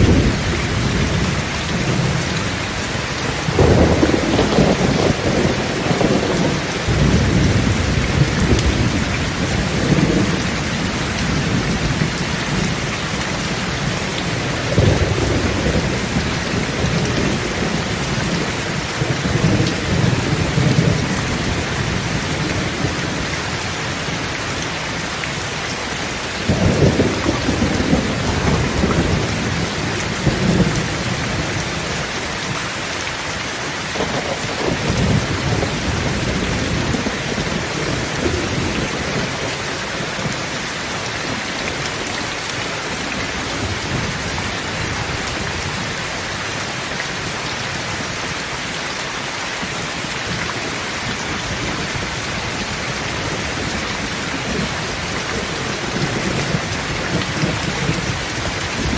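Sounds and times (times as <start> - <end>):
rolling thunder rumbles: 0.0 - 24.0, 26.3 - 32.2, 33.9 - 46.1, 50.2 - 58.9
heavy rain hissing: 0.0 - 58.9.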